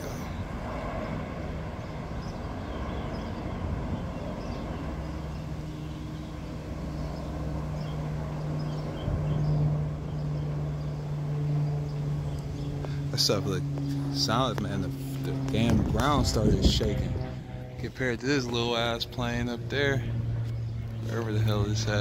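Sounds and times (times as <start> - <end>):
aircraft rotors droning overhead: 0.0 - 22.0.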